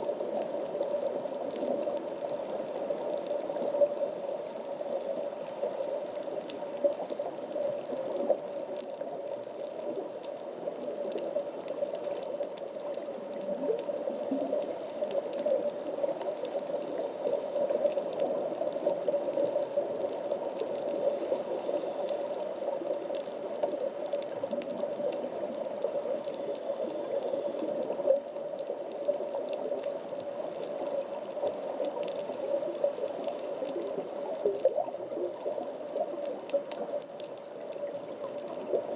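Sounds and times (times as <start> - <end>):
faint clicks and crackles: 0.0 - 38.9
underwater hum-like wash: 0.0 - 38.9.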